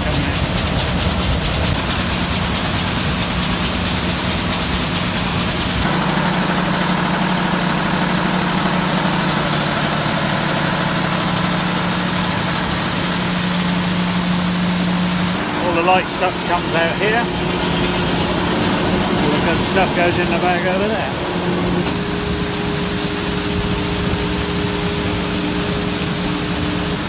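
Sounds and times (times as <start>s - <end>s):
fan blowing air hiss: 0.0s - 27.0s
low machine rumble: 0.0s - 27.0s
machine hum: 0.0s - 27.0s.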